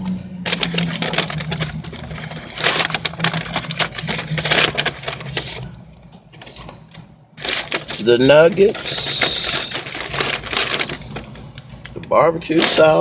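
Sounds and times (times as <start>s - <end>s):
paper bag rustling and crinkling: 0.4s - 13.0s.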